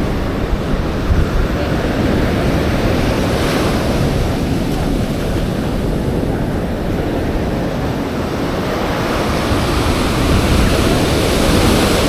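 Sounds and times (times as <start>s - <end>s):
surf washing on sandy beach: 0.0s - 12.0s
wind rumbling on microphone: 0.0s - 12.0s.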